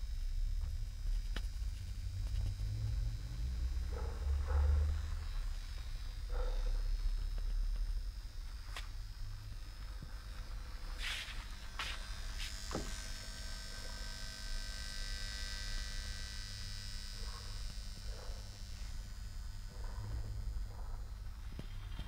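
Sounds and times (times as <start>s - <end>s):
electrical hum and buzz: 0.0s - 22.0s.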